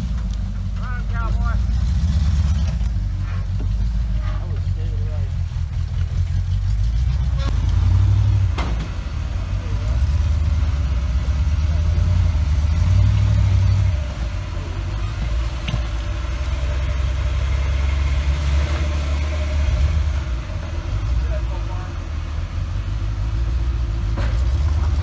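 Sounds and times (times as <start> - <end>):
jeep engine rumbling under load: 0.0 - 25.0.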